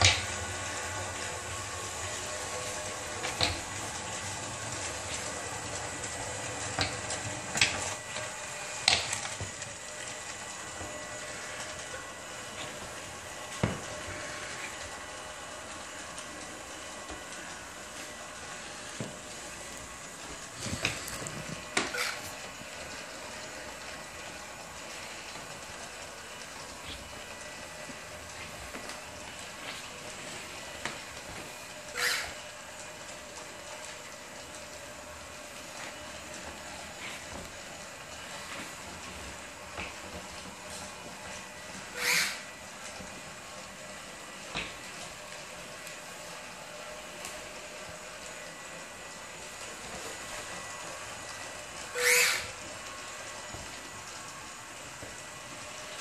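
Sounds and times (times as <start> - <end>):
small electric motors whirring: 0.0 - 56.0.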